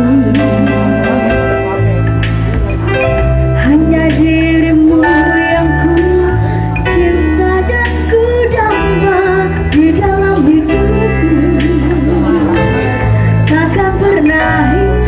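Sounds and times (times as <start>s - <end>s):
woman singing: 0.0s - 1.5s, 3.6s - 15.0s
backing music with bass: 0.0s - 15.0s.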